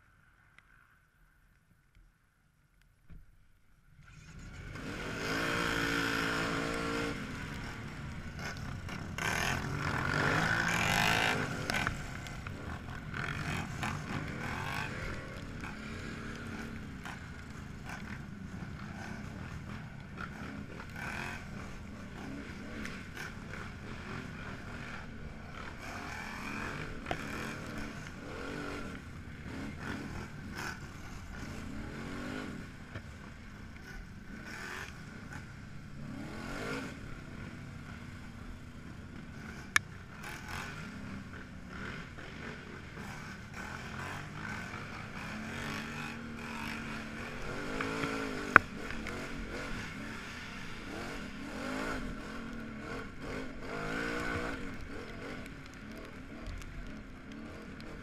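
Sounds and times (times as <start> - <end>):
atv engines revving: 4.0 - 58.0.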